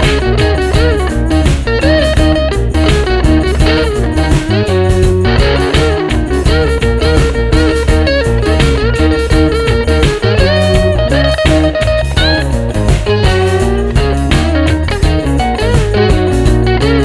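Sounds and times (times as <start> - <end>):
bass: 0.0 - 17.0
bluesy electric guitar: 0.0 - 17.0
steady beat: 0.0 - 17.0.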